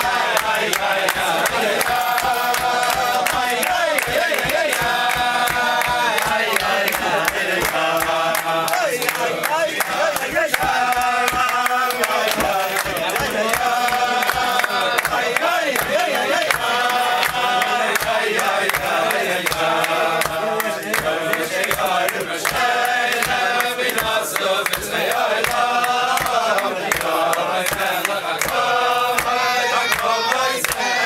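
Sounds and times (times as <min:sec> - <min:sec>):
hand-clapping: 0:00.0 - 0:31.0
men singing in unison: 0:00.0 - 0:31.0.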